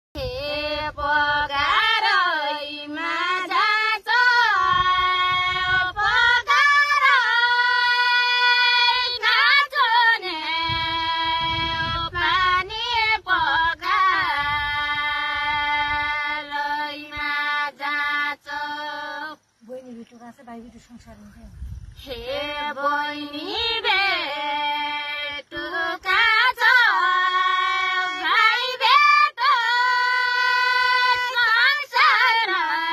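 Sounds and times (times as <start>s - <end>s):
girl singing unaccompanied: 0.2s - 19.7s, 21.5s - 32.9s.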